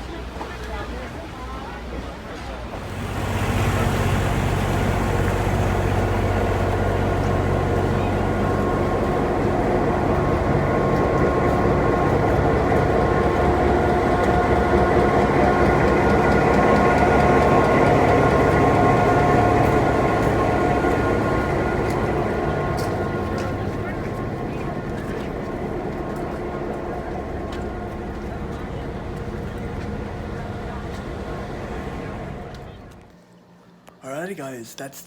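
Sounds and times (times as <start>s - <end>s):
train rail rumble: 0.0s - 33.2s.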